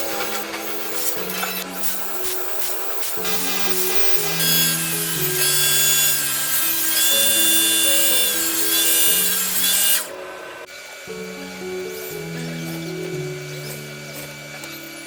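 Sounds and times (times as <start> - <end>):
music with slow held notes: 0.0 - 15.0
power tool cutting wood: 0.0 - 15.0.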